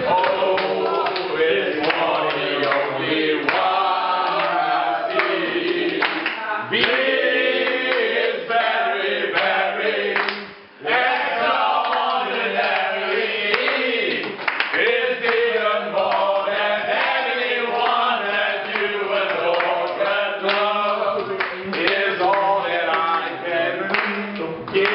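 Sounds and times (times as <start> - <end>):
men singing and chanting: 0.0 - 10.2, 10.8 - 24.9.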